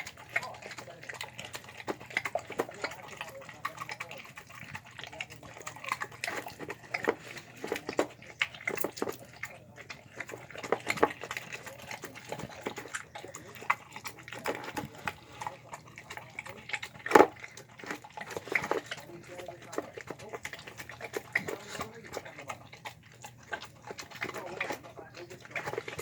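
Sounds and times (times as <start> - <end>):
dog chewing wet food: 0.0 - 26.0.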